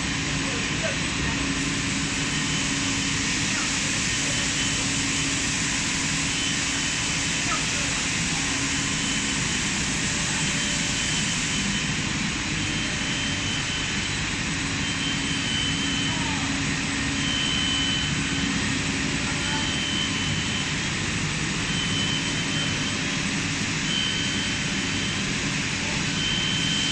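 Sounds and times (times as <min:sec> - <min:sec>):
loud machinery noise: 0:00.0 - 0:26.9.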